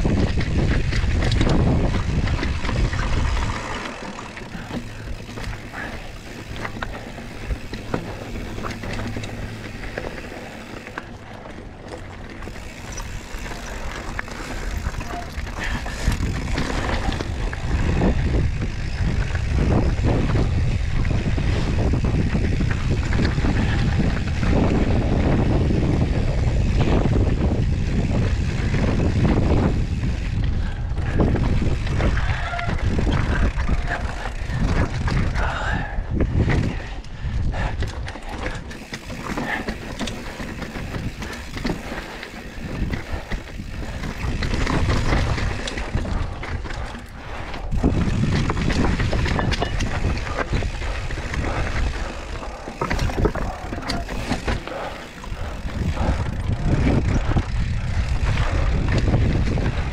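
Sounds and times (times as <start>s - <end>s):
wind on microphone: 0.0s - 11.4s, 12.4s - 59.9s
bike tyres crunching over rock: 0.0s - 37.0s, 37.6s - 59.9s
bike knocking and rattling: 0.0s - 59.9s.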